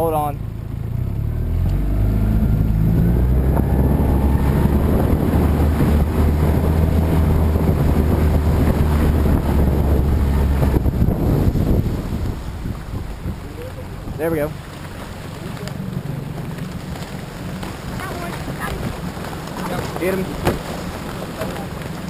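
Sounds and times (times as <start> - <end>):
outboard motor droning: 0.0 - 22.0
water rushing along hull: 0.0 - 22.0
wind buffeting microphone: 1.0 - 22.0.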